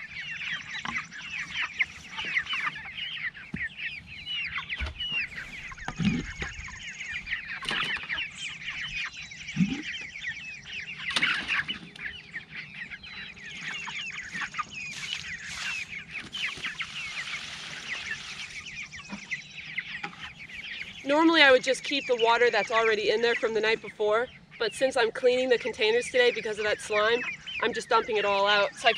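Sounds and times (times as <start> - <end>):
chicks peeping: 0.0 - 28.9.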